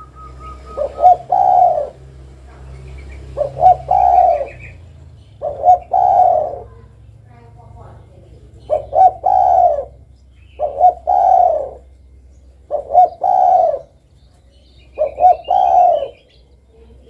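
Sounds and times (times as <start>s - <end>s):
dove cooing: 0.0s - 17.0s
faint bird chirps: 0.0s - 17.0s.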